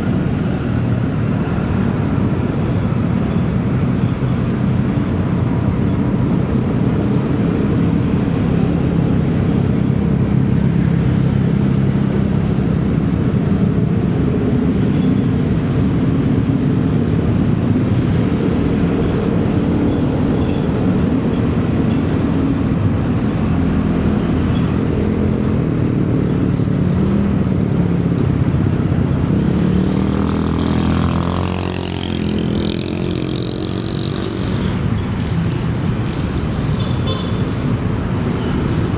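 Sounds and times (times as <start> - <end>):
city traffic noise: 0.0 - 38.9.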